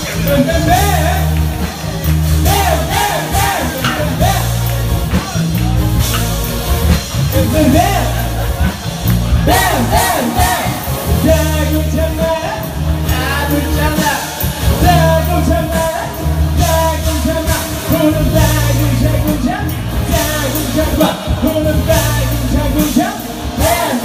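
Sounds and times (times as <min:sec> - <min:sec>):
live pop band with singer: 0:00.0 - 0:24.0.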